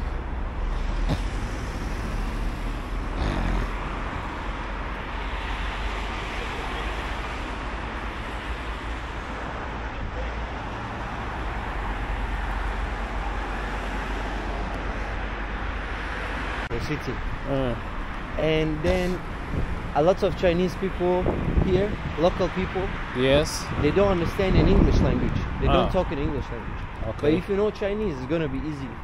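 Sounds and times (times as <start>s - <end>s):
cars driving past: 0.0s - 29.0s
deep traffic rumble: 0.0s - 29.0s.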